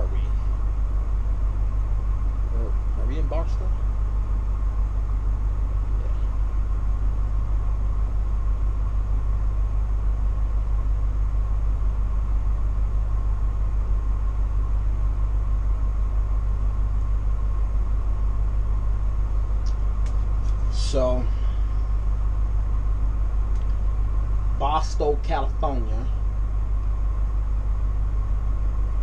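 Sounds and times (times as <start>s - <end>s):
faint steady whine: 0.0s - 29.0s.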